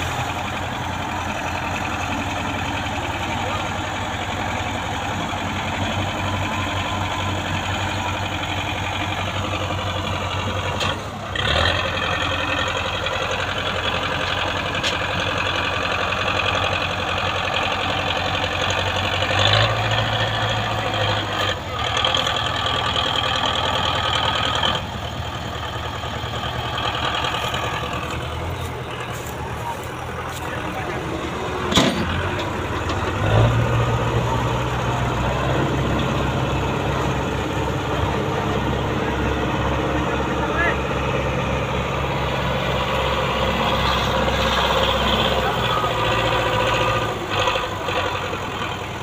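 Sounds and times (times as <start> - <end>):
tractor diesel engines under load: 0.0 - 49.0.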